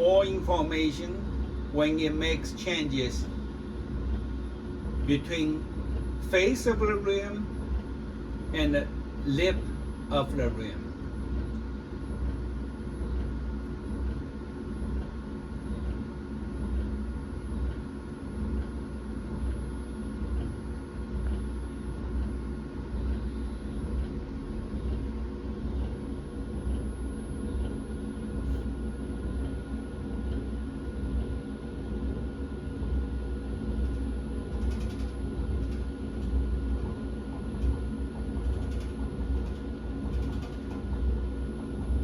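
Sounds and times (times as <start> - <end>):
lathe humming with steady tones: 0.0 - 42.0.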